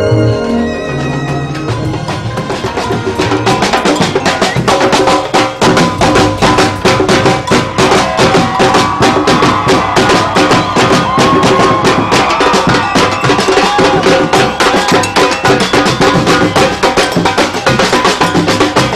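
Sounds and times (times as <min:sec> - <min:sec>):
music with fast percussion beat: 0:00.0 - 0:18.9.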